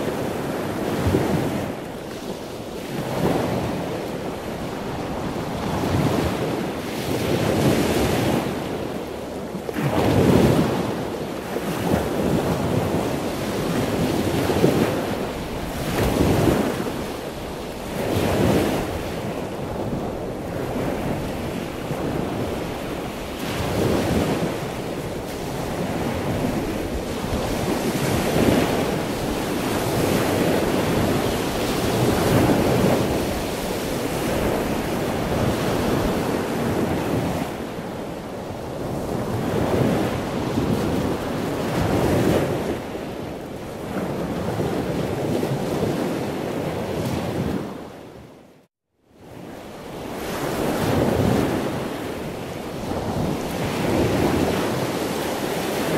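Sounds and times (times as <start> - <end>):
ocean waves breaking ashore: 0.0 - 48.6, 49.2 - 55.9.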